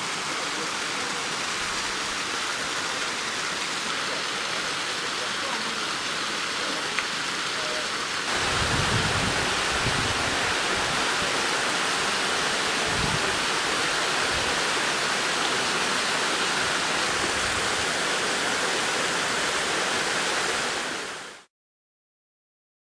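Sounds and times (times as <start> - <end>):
water rushing into shaft: 0.0 - 21.5.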